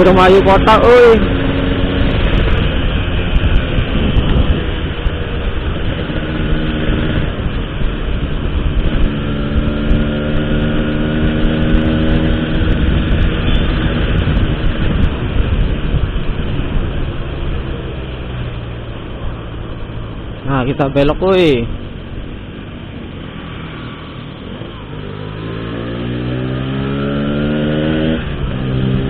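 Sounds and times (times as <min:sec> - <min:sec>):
motorcycle engine cruising: 0:00.0 - 0:29.0
wind rumble on microphone: 0:00.0 - 0:29.0.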